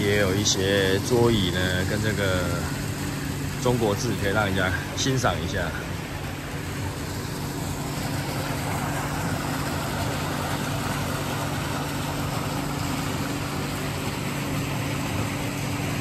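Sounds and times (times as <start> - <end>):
ventilation hum and hiss: 0.0 - 16.0.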